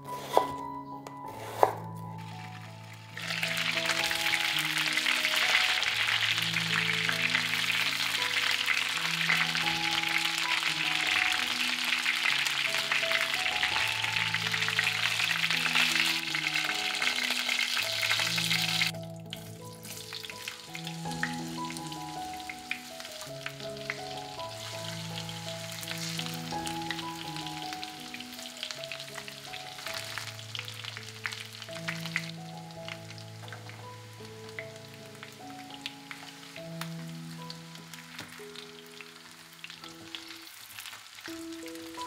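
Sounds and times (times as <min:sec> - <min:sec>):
soft background music: 0:00.0 - 0:42.0
potatoes crackling in hot oil: 0:02.1 - 0:42.0
chicken frying in oil: 0:02.2 - 0:42.0.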